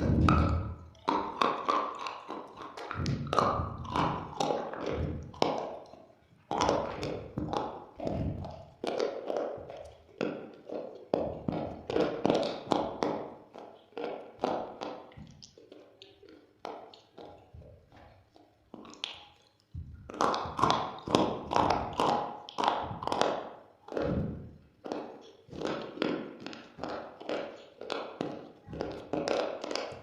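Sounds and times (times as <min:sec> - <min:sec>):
crunching of hard food being chewed: 0:00.0 - 0:30.0.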